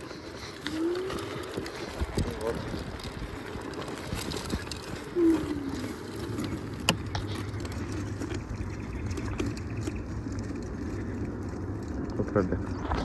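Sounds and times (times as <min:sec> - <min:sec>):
vehicle rumbling on the move: 0:00.0 - 0:13.0.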